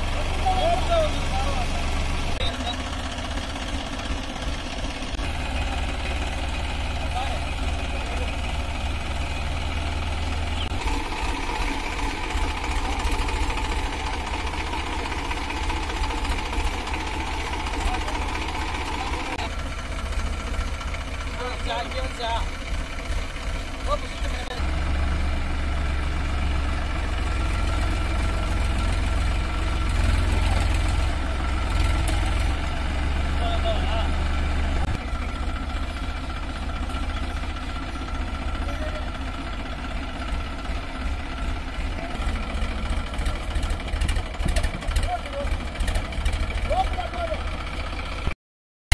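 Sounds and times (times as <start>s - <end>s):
tractor diesel engine running: 0.0s - 48.4s.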